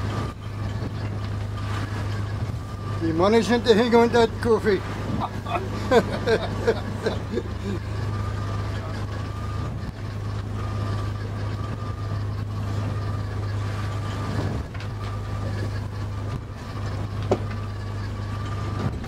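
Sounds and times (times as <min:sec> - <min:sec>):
boat engine droning: 0:00.0 - 0:19.0
faint wavering whine: 0:00.0 - 0:19.0.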